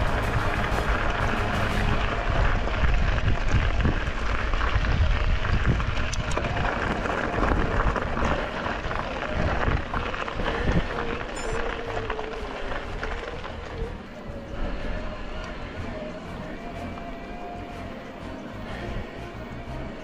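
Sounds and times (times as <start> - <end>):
wind buffeting microphone: 0.0 - 17.9
bike tyres rolling on gravel: 0.0 - 20.0.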